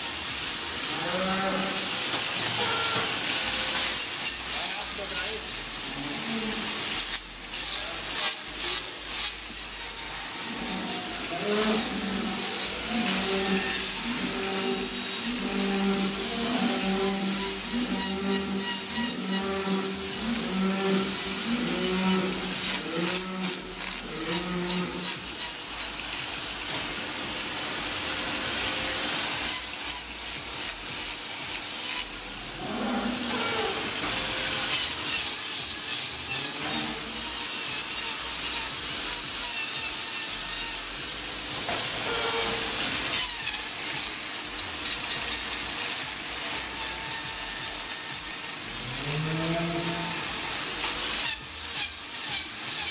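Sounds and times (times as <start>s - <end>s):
angle grinder grinding hoof: 0.0s - 52.9s.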